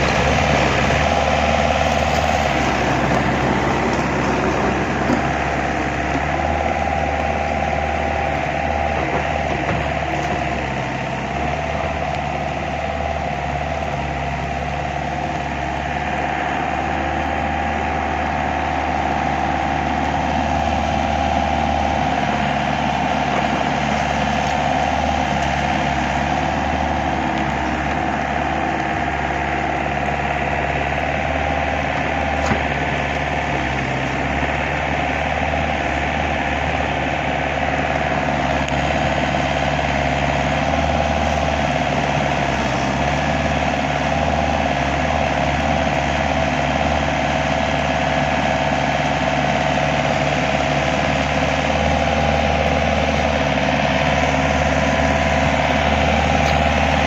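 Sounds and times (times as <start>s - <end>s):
motor running steadily: 0.0s - 57.0s.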